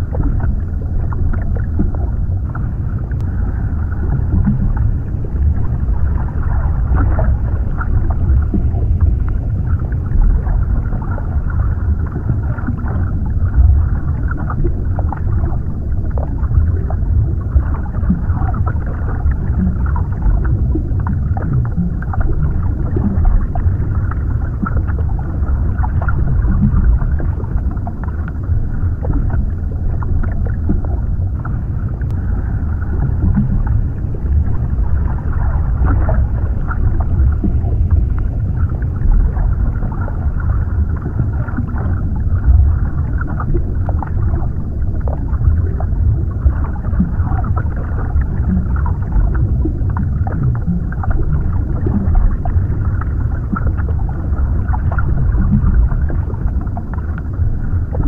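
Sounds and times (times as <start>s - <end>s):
deep underwater rumble: 0.0s - 58.0s
muffled bubbling: 0.0s - 58.0s.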